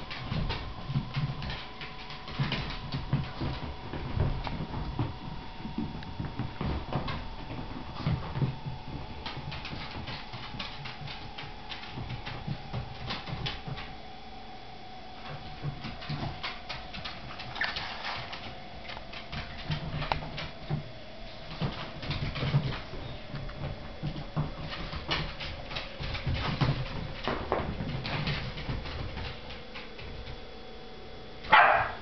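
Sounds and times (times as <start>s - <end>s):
puppy claws clicking on floor: 0.0s - 14.0s, 15.2s - 30.4s.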